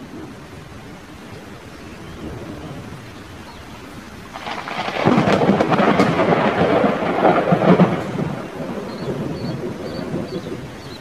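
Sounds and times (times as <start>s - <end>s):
rain hiss: 0.0s - 11.0s
crackling thunder roll: 1.9s - 11.0s.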